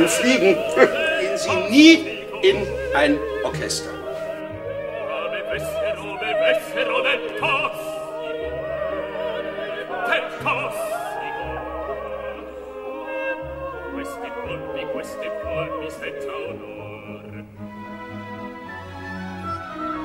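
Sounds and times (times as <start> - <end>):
opera voices singing with vibrato: 0.0 - 20.0
orchestra sustaining low notes: 0.0 - 20.0.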